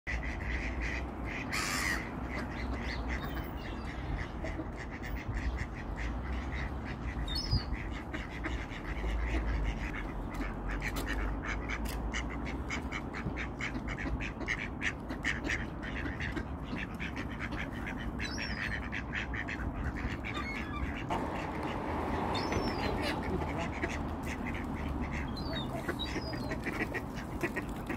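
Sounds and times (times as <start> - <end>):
ducks quacking: 0.1 - 27.9.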